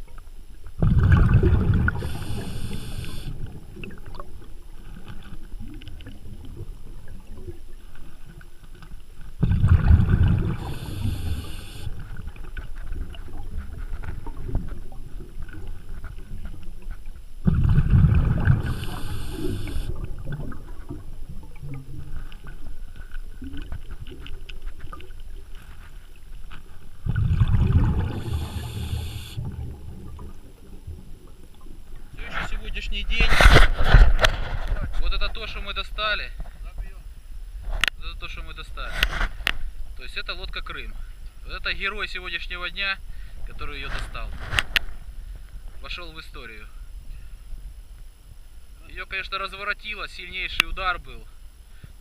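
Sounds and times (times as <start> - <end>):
water around a boat: 0.0 - 52.0.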